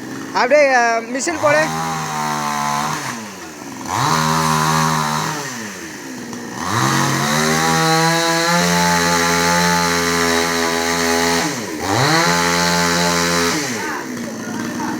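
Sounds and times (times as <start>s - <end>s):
chainsaw engine revving: 0.0s - 14.9s.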